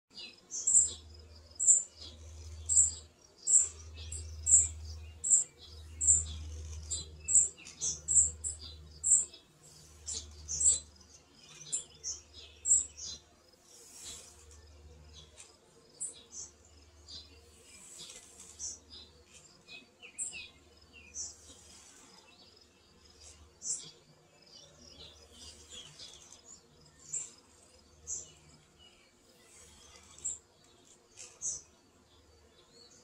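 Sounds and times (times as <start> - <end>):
bird chirping: 0.1 - 33.0.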